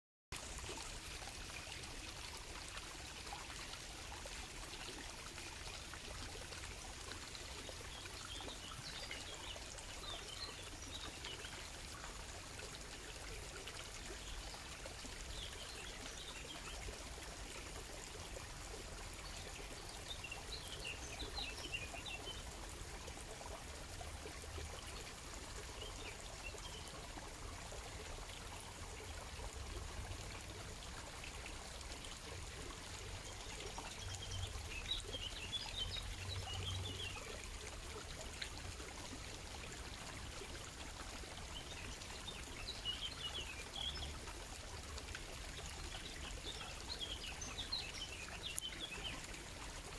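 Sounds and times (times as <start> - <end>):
water trickling over stones: 0.3 - 49.9.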